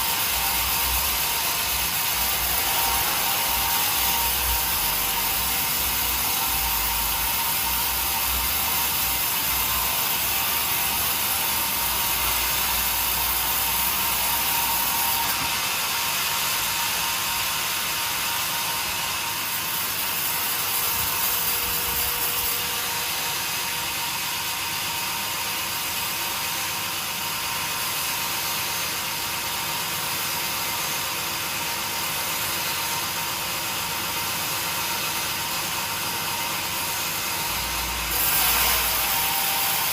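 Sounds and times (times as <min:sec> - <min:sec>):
saw cutting timber: 0:00.0 - 0:39.9.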